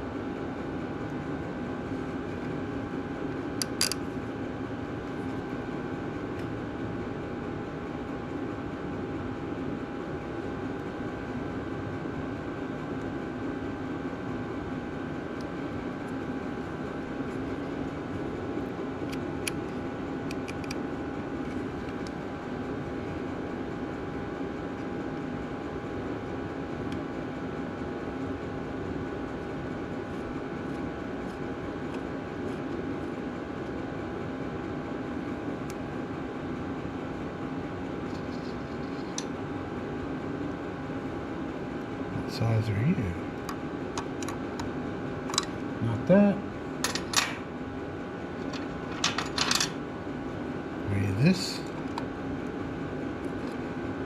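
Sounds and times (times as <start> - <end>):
machine hum with whine: 0.0 - 54.0.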